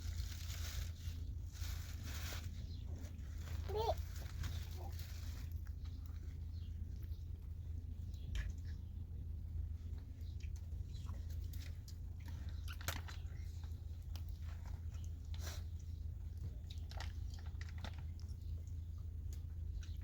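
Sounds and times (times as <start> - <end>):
chewing and crunching: 0.0 - 20.0
steady low hum: 0.0 - 20.0.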